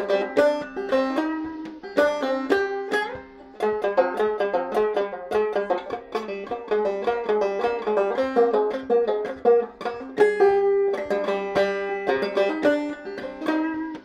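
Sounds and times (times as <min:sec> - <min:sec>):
banjo plucked melody: 0:00.0 - 0:14.0.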